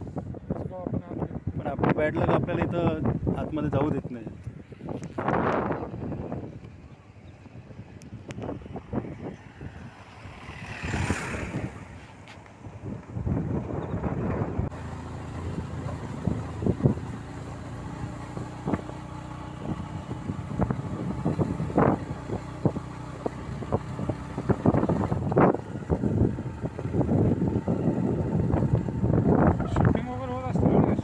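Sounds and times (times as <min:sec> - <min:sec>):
wind noise on microphone: 0:00.0 - 0:31.0
vehicle engine running: 0:04.9 - 0:31.0.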